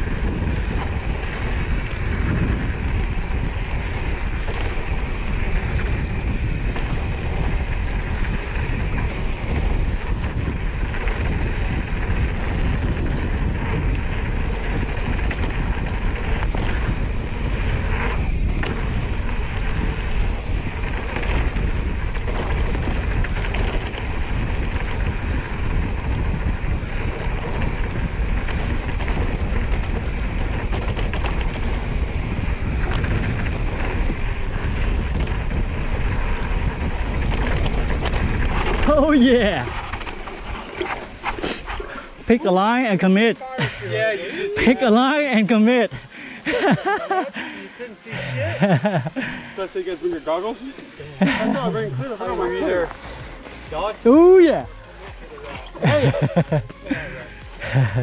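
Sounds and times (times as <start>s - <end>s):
wind rushing over microphone: 0.0s - 54.8s
bike tyres rumbling on dirt: 0.0s - 58.0s.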